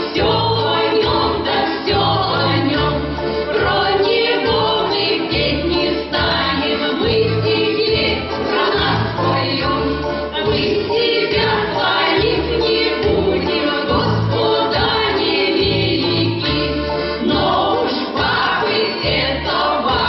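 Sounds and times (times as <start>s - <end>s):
folk choir singing: 0.0s - 20.0s
instrumental accompaniment: 0.0s - 20.0s.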